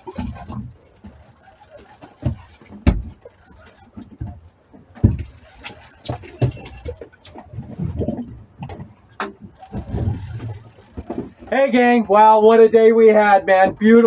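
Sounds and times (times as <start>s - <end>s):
irregular knocks and thumps: 0.0s - 11.9s.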